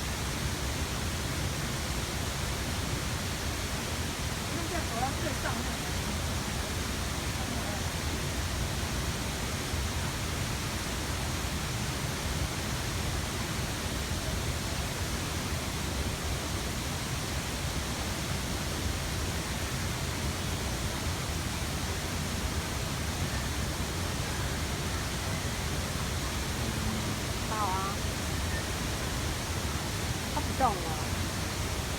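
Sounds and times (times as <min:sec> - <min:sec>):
water rushing: 0:00.0 - 0:31.9.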